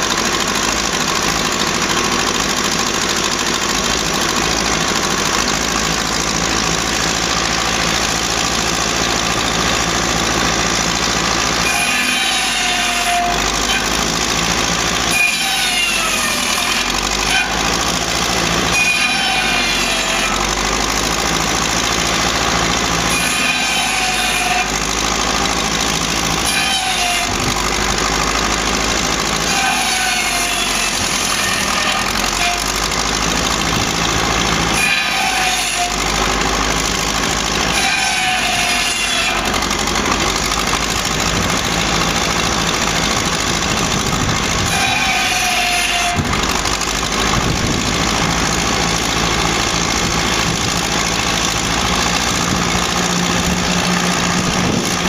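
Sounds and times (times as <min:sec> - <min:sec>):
circular saw cutting logs: 0:00.0 - 0:55.0
tractor engine running: 0:00.0 - 0:55.0.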